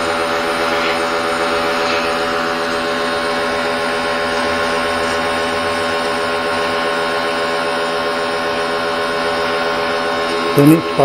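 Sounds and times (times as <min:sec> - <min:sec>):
pressure washer motor whine: 0:00.0 - 0:11.0
water jet spraying on concrete: 0:00.0 - 0:11.0.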